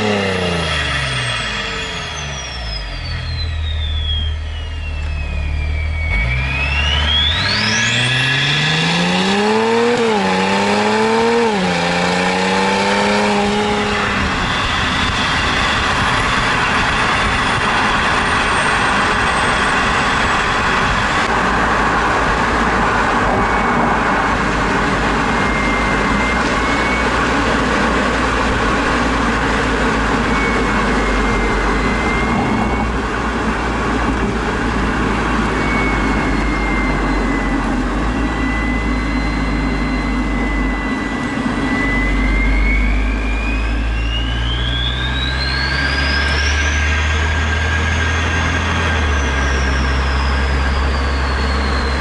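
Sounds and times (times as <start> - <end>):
turbo whistle: 0.0 - 21.2, 23.2 - 52.0
diesel car engine accelerating: 0.0 - 52.0
road and wind noise: 0.0 - 52.0.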